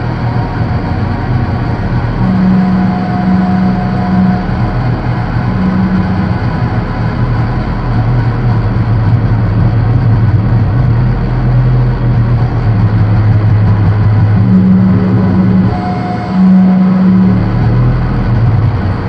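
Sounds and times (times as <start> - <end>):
held low synthesizer tones: 0.0 - 19.0
rumbling noise texture: 0.0 - 19.0.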